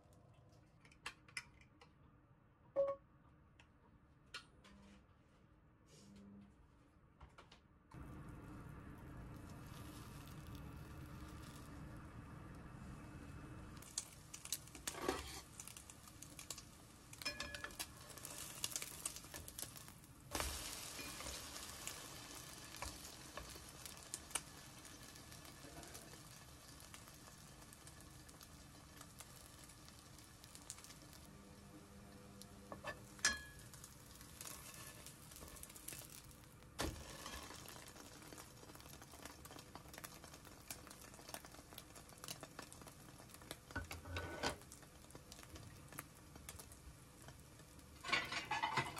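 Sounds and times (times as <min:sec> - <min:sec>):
butter sizzling in frying pan: 0:08.0 - 0:31.3, 0:32.7 - 0:48.9.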